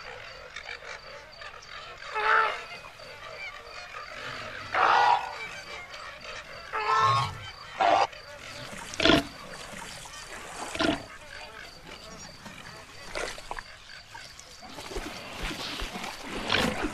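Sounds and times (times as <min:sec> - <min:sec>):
frogs croaking: 0:00.0 - 0:16.9
insects chirring: 0:00.0 - 0:16.9.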